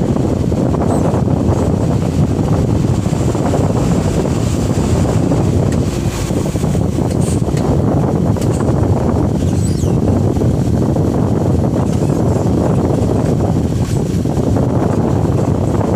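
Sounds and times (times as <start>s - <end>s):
truck engine and road rumble: 0.0s - 15.9s.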